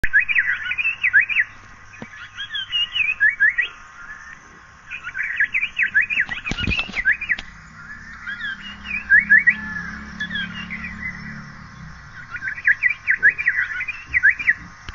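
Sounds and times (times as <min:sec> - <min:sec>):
bird chirping: 0:00.0 - 0:14.9.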